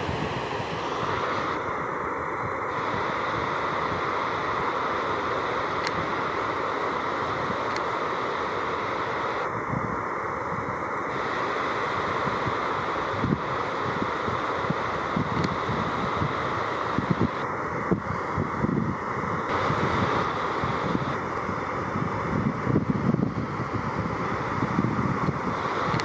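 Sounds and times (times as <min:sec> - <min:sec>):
river water rushing over weir: 0:00.0 - 0:26.0.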